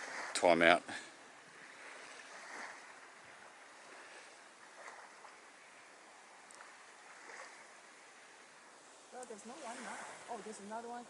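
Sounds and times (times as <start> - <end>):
distant waves: 0.0 - 11.0
wind: 0.0 - 11.0.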